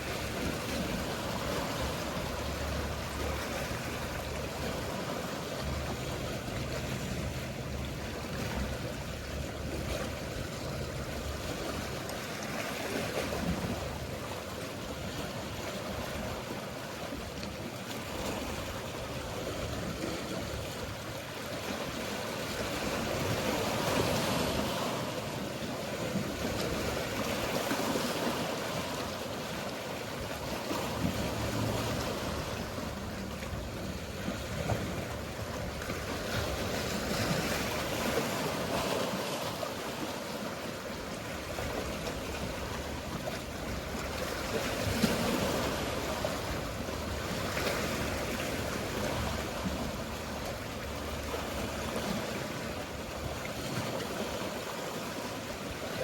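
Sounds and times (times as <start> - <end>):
boat engine hum: 0.0 - 56.0
sea waves washing: 0.0 - 56.0.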